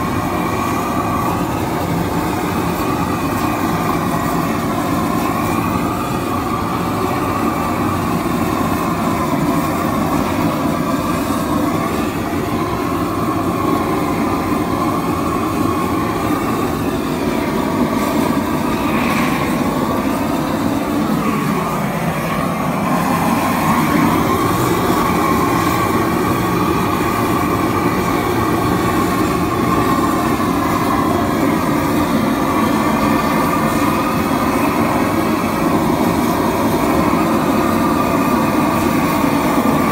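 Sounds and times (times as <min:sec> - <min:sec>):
roofing torch burning: 0:00.0 - 0:39.9.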